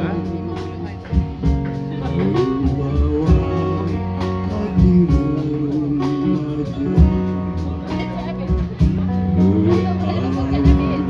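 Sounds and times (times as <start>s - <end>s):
guitars playing: 0.0s - 11.0s
man singing into a microphone: 0.0s - 11.0s.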